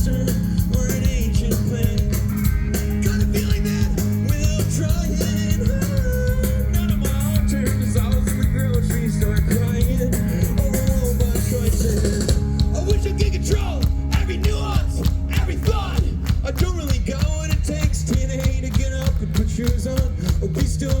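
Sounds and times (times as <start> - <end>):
fast drum beat: 0.0 - 21.0
live rock band playing: 0.0 - 21.0.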